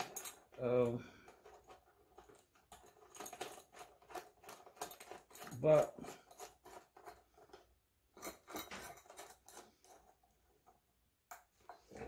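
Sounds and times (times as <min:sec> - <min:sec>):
small metal clicks and scrapes: 0:00.0 - 0:12.0.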